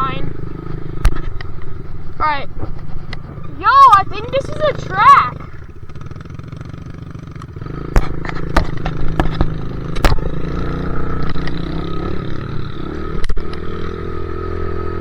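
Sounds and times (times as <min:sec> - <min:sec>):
dirt bike engine running: 0:00.0 - 0:15.0
sharp knocks and rattles: 0:00.3 - 0:13.8.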